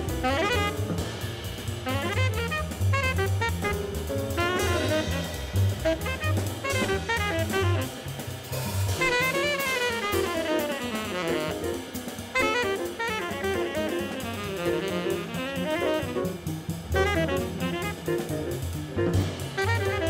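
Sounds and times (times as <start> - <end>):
double bass: 0.0 - 20.0
drum kit with cymbals: 0.0 - 20.0
horn soloing: 0.0 - 20.0.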